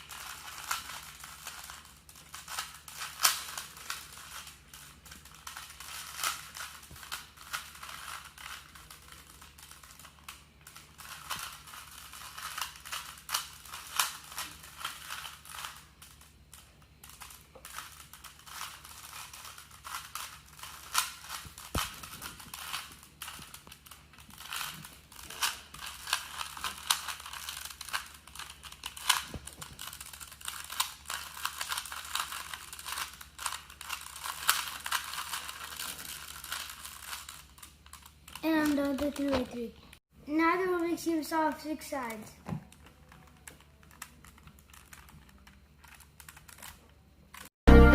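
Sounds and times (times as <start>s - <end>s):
puzzle cube clicking and rattling: 0.0s - 39.4s, 42.7s - 47.5s.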